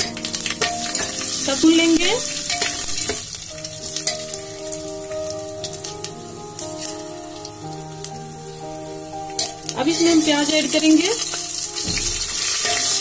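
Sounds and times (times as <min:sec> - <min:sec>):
soft background music: 0:00.0 - 0:13.0
spices sizzling in hot ghee: 0:00.0 - 0:13.0.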